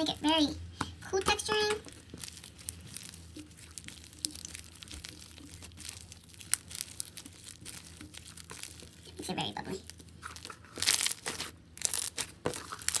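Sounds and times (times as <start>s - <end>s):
slime squeezed by hand crackling: 0.0s - 13.0s.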